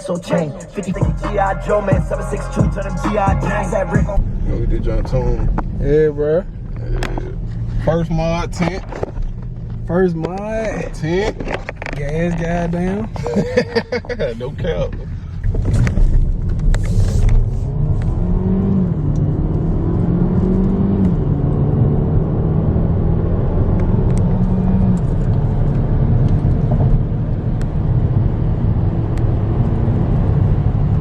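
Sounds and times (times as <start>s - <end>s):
car engine accelerating: 0.0s - 31.0s
road and tyre rumble: 0.0s - 31.0s.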